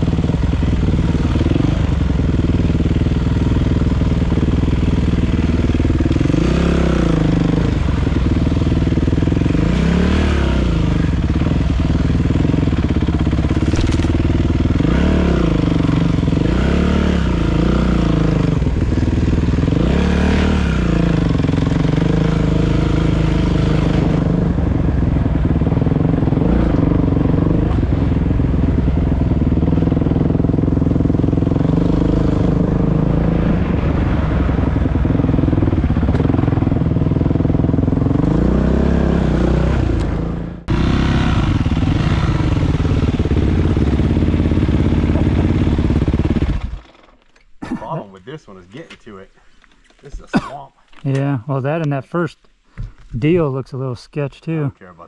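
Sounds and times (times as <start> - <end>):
dirt bike engine revving: 0.0 - 47.1.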